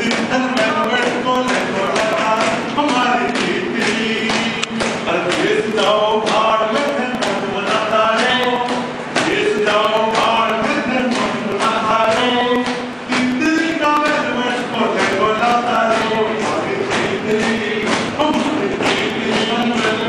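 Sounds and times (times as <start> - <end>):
man singing unaccompanied: 0.0 - 20.0
sharp taps keeping time: 0.0 - 20.0.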